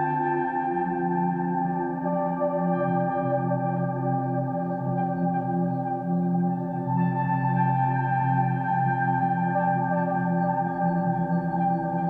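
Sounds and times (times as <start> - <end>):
soft organ-like keyboard chords: 0.0 - 12.0.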